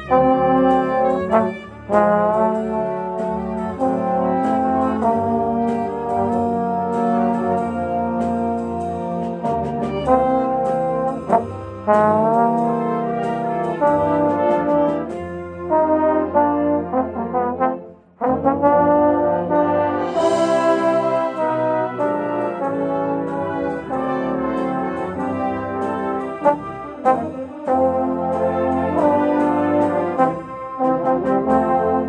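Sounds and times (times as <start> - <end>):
brass band playing: 0.0 - 32.0
trombone: 0.0 - 32.0.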